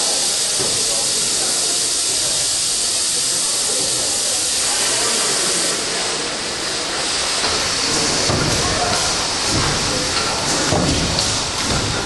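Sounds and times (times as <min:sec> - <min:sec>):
steam hissing from engine: 0:00.0 - 0:12.0.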